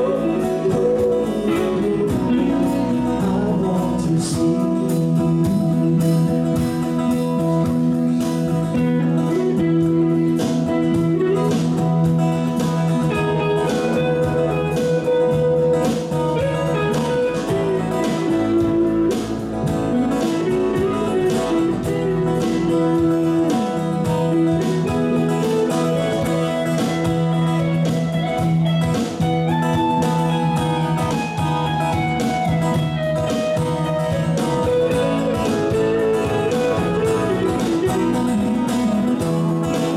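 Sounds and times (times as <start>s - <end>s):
acoustic and electric guitars: 0.0s - 39.9s
bass guitar: 0.0s - 39.9s
drums: 0.0s - 39.9s
guitar melody: 0.0s - 39.9s.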